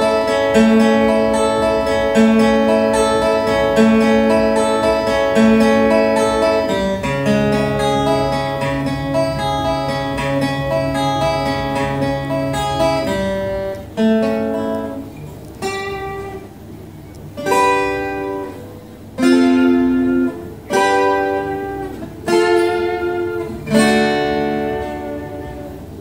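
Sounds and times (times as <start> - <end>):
acoustic guitar chords ringing: 0.0 - 26.0
acoustic guitar picked notes: 0.0 - 26.0.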